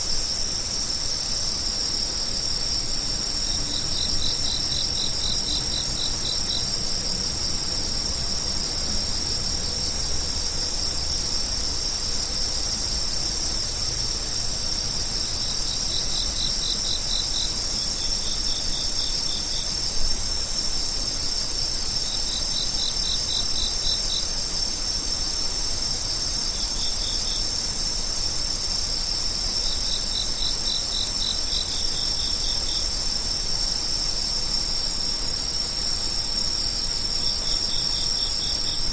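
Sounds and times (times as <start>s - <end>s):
insect chirping in rapid pulses: 0.0s - 38.9s
insects trilling: 0.0s - 38.9s.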